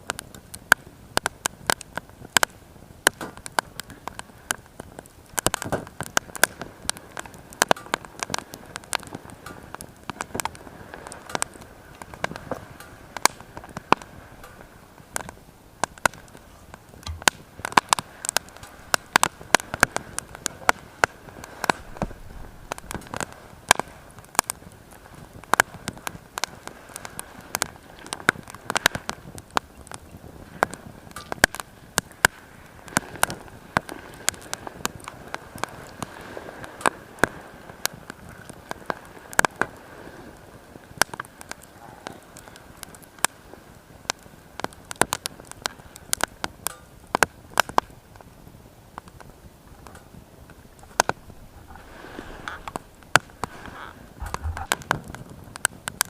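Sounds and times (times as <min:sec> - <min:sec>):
faint steady hiss: 0:00.0 - 0:56.0
wood fire crackling in stove: 0:00.0 - 0:56.0.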